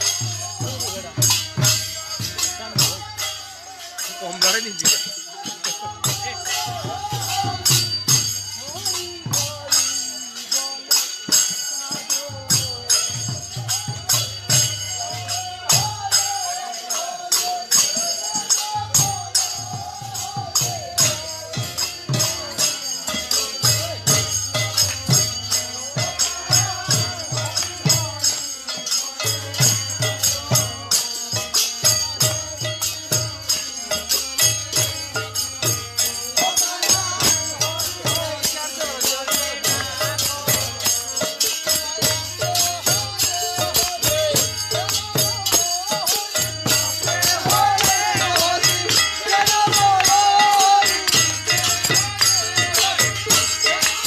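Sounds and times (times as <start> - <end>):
hand cymbals clashing: 0.0 - 54.0.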